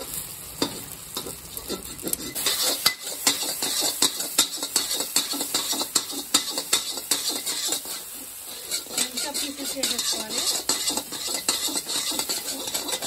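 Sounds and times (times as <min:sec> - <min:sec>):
spatula scraping a metal wok: 0:00.5 - 0:13.0.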